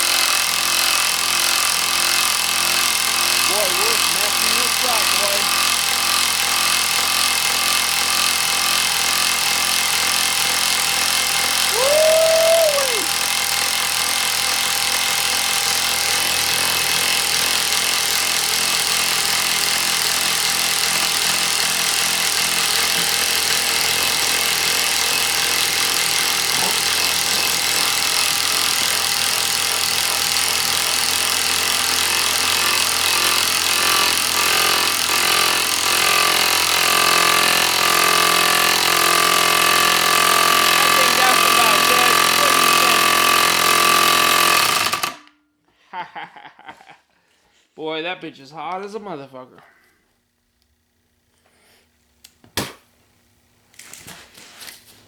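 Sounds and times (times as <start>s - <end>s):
impact wrench hammering: 0.0s - 45.3s.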